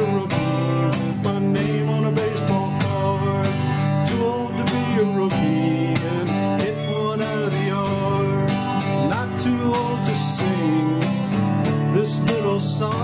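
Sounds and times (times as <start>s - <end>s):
country band music: 0.0s - 13.0s
strummed acoustic guitar: 0.0s - 13.0s.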